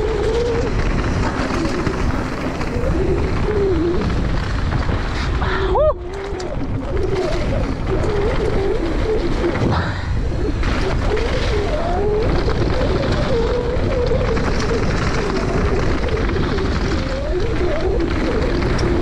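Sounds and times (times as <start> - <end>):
bike tyres on trail: 0.0 - 19.0
wavering hum: 0.0 - 19.0
wind rush: 0.0 - 19.0.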